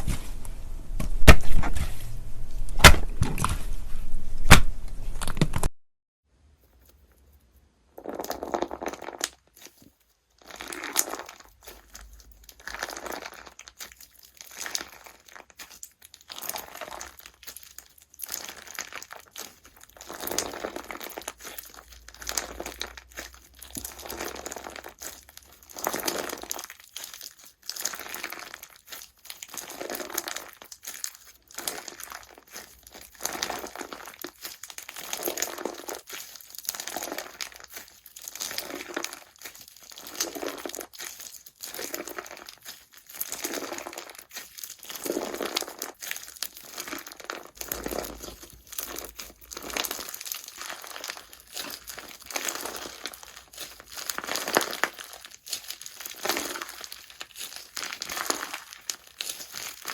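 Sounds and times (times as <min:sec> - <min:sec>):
slime crackling and popping: 0:08.0 - 0:59.9.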